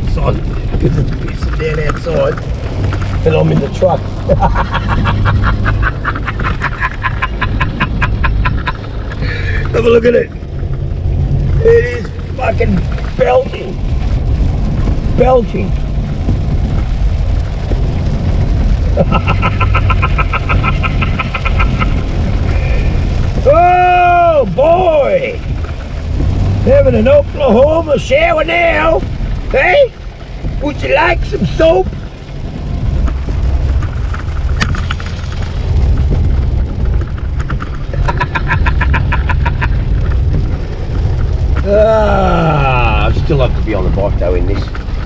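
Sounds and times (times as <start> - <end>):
heavy rain: 0.0 - 45.0
truck cabin rumble: 0.0 - 45.0.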